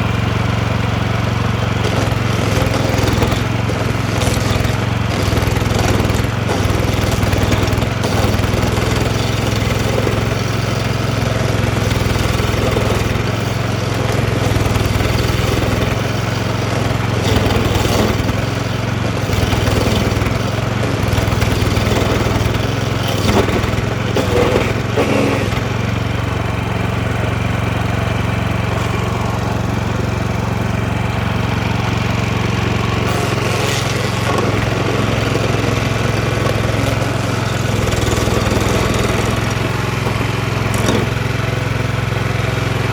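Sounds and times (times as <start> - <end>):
cutter wheel scraping stump: 0.0 - 42.9
stump grinder engine running: 0.0 - 42.9.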